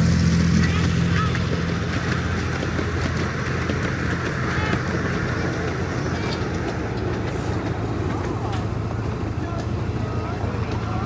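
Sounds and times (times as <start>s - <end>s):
miniature steam train rumbling: 0.0s - 11.0s.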